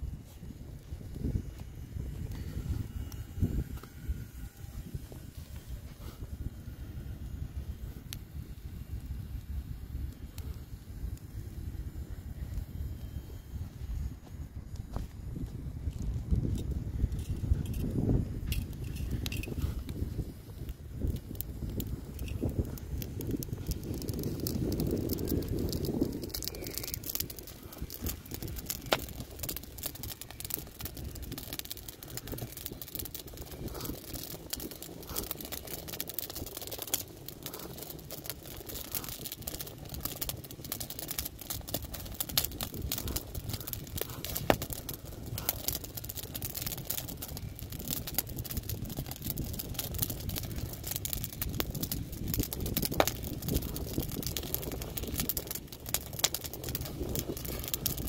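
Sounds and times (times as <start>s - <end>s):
low steady rumble: 0.0s - 58.0s
wood fire crackling and popping: 0.0s - 58.0s.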